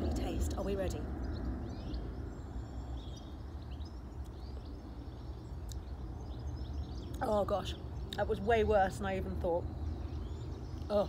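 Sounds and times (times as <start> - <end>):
faint birds chirping: 0.0 - 11.0
low outdoor rumble: 0.0 - 11.0.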